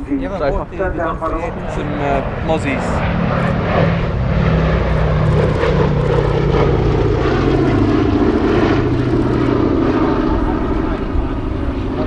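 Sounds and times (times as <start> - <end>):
propeller engines droning: 0.0 - 12.0.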